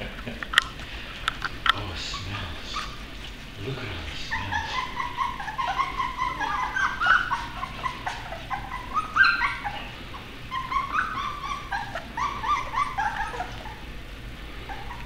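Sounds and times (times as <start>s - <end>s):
puppies whimpering and squeaking: 1.4s - 15.0s.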